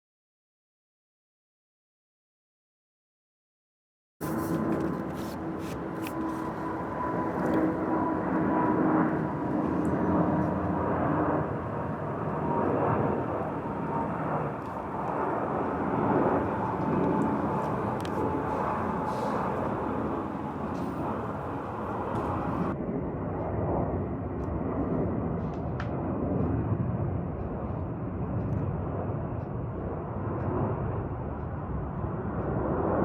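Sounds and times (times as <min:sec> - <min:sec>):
jet engines roaring: 0:04.2 - 0:33.0.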